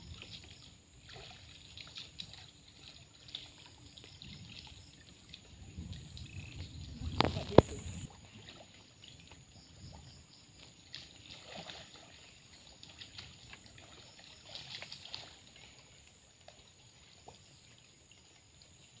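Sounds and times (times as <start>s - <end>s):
faint water splashing: 0.0s - 19.0s.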